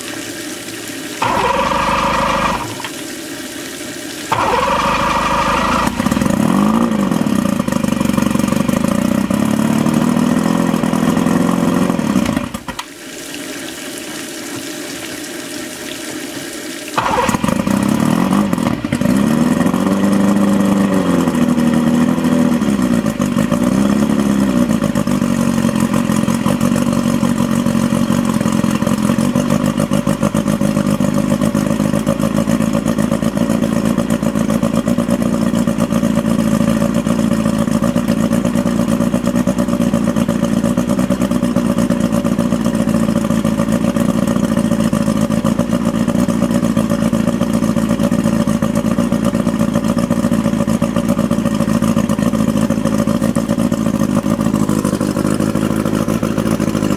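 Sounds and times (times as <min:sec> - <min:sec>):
outboard motor revving and idling: 0:01.2 - 0:03.0, 0:04.3 - 0:12.9, 0:17.0 - 0:56.9.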